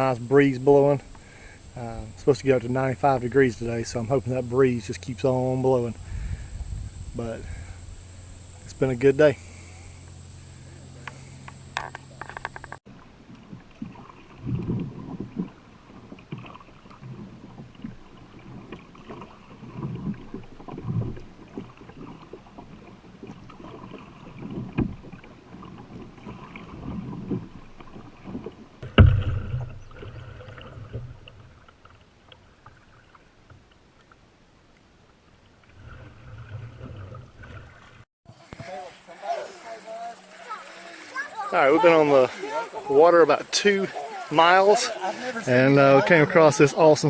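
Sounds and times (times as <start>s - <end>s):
paddle splashing in water: 7.4s - 47.0s.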